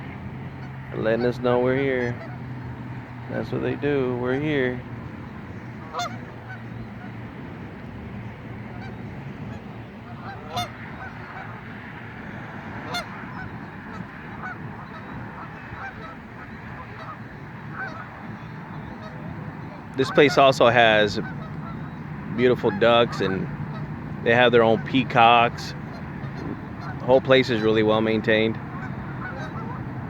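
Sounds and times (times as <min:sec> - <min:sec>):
geese honking: 0:00.0 - 0:07.2, 0:08.3 - 0:30.0.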